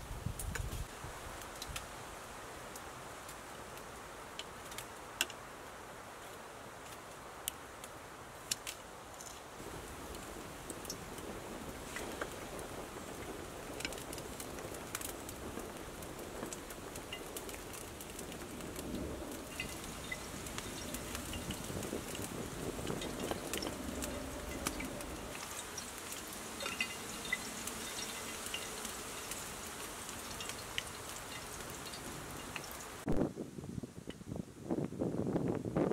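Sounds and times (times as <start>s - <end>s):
soft hiss: 0.0s - 35.8s
sharp crackles and ticks: 0.4s - 2.0s, 2.6s - 5.4s, 6.2s - 33.2s.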